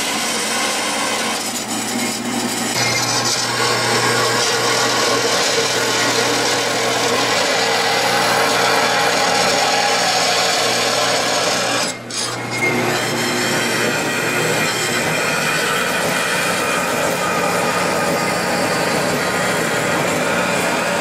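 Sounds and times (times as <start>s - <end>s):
bandsaw cutting metal: 0.0s - 21.0s.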